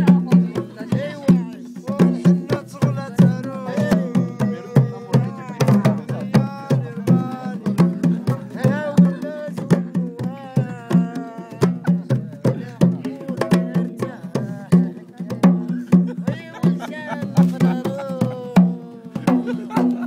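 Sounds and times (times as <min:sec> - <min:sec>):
goblet drums played by hand: 0:00.0 - 0:20.0
voices singing: 0:00.0 - 0:20.0.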